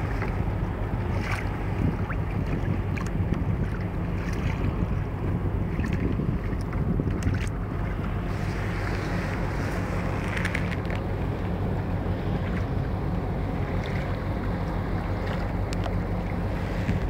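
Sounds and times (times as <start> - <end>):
water sloshing around kayak: 0.0 - 17.0
wind buffeting microphone: 0.0 - 17.0.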